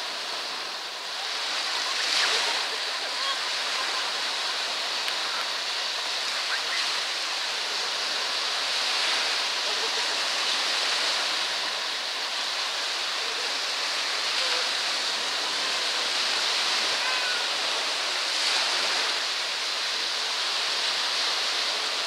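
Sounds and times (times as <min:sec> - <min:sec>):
small waves breaking on shore: 0:00.0 - 0:22.0.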